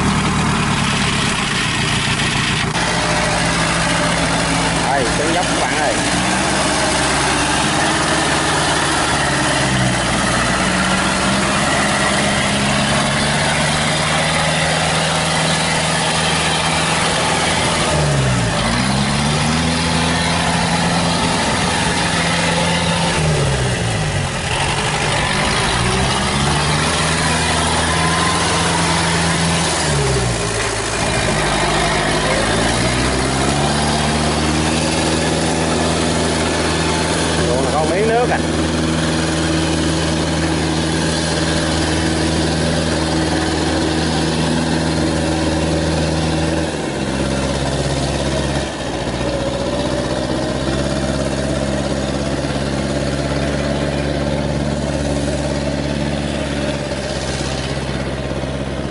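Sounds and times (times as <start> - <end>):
crawler engine running: 0.0 - 58.9.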